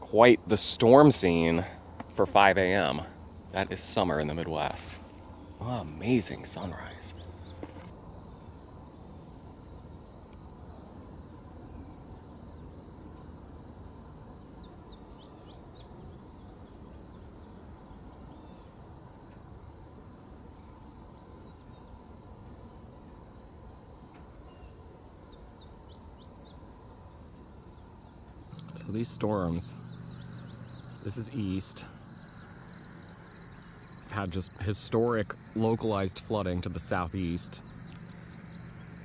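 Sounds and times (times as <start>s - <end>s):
crickets trilling: 0.0s - 39.0s.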